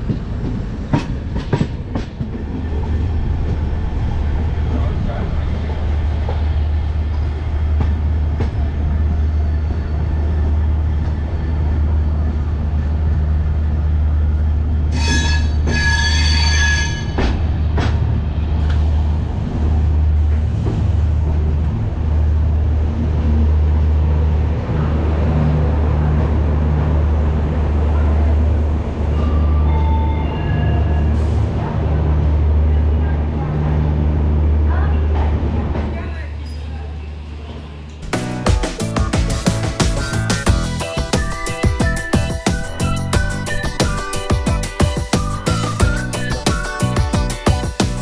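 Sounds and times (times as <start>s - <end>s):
train low rumble: 0.0s - 48.0s.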